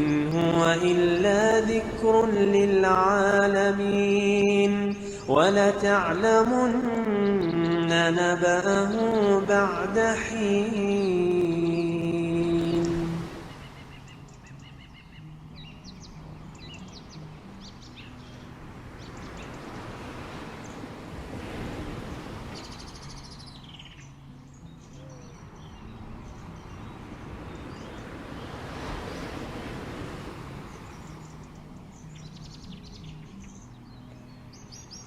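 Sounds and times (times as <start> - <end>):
birds chirping and calling: 0.0 - 35.0
waves washing: 0.0 - 35.0.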